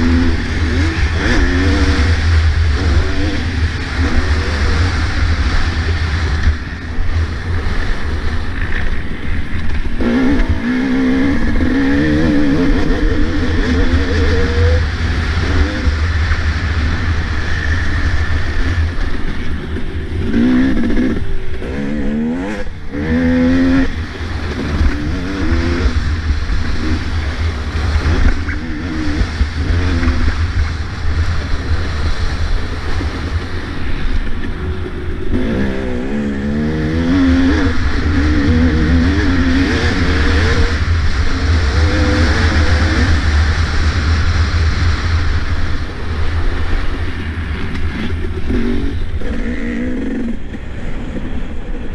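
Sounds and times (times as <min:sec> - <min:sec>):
motocross bike engine revving: 0:00.0 - 0:51.9
wind rushing over microphone: 0:00.0 - 0:51.9.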